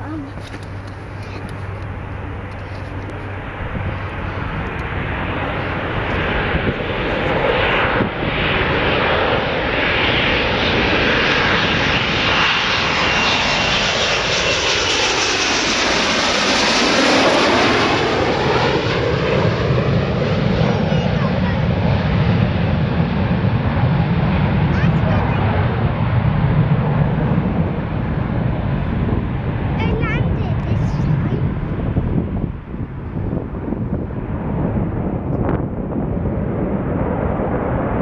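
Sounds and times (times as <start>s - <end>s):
jet engines passing by: 0.0s - 38.0s.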